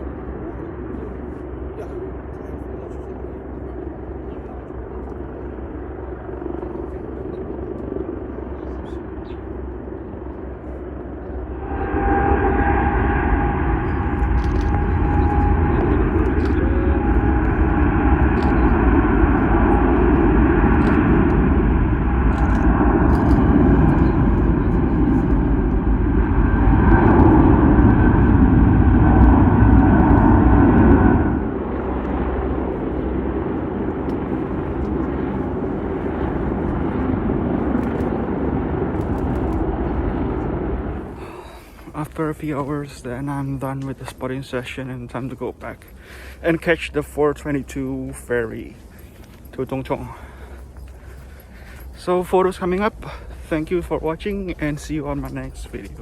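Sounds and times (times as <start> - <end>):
faint steady whine: 0.0 - 56.0
jet engine rush: 0.0 - 56.0.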